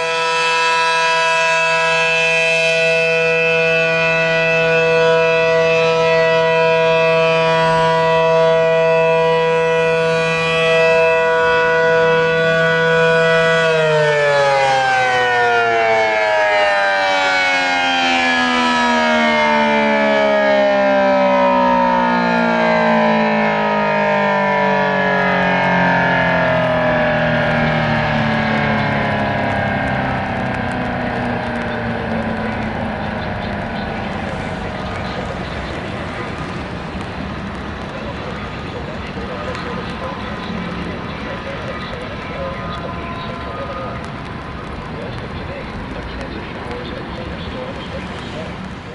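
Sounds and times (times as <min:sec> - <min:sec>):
siren winding down: 0:00.0 - 0:48.0.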